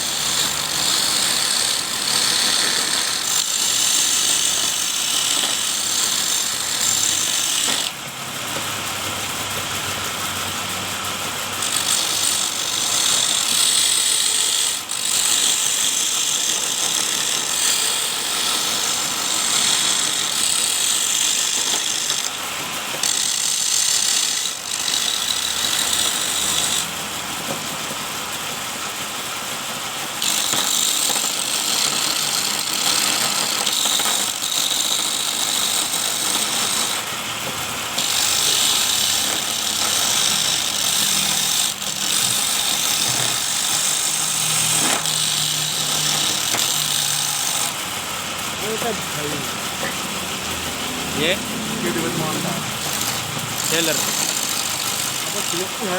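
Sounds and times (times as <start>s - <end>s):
chisel cutting wood: 0.0s - 28.6s, 30.0s - 55.9s
lathe motor humming: 0.0s - 55.9s.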